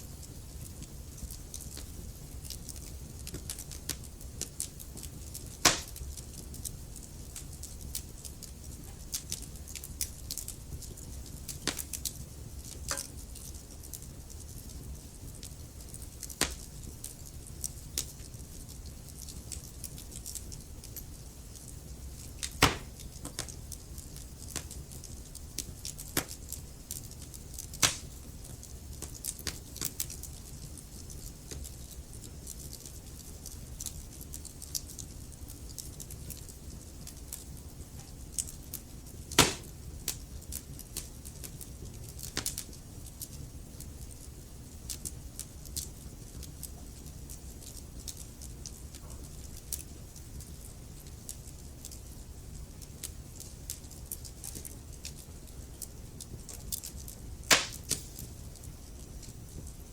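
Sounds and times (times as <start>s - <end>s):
low rumble of burning: 0.0s - 59.9s
wood fire crackling and popping: 0.0s - 59.9s.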